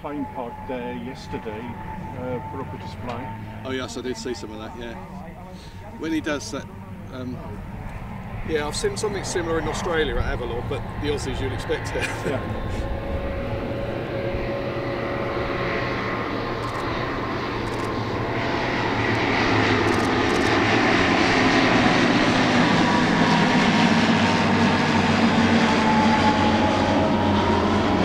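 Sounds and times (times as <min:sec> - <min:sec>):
aircraft engine flypast: 0:00.0 - 0:28.0.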